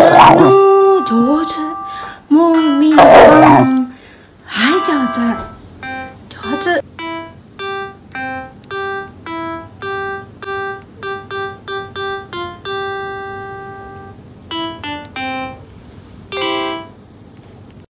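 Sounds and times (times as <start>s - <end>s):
light melody of single notes: 0.4s - 3.9s, 4.6s - 15.6s, 16.3s - 17.0s.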